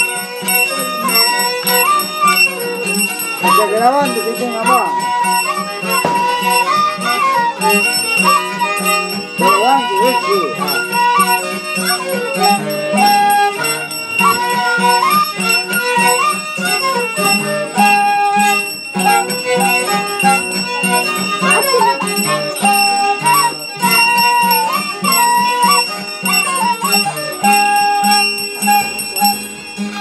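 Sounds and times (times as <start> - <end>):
flute melody: 0.0 - 30.0
strummed acoustic guitar: 0.0 - 30.0
violin melody: 0.0 - 30.0.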